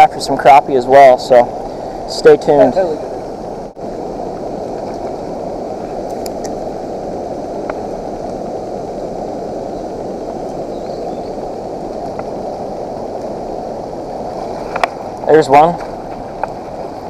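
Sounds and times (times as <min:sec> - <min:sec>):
river water pouring over spillway: 0:00.0 - 0:17.0.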